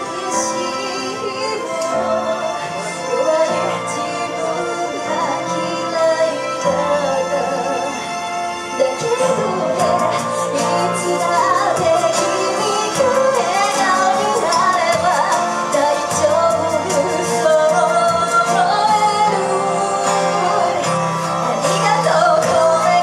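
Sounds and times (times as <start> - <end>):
woman singing into microphone: 0.0 - 8.2, 8.8 - 23.0
instrumental accompaniment with bass: 0.0 - 23.0.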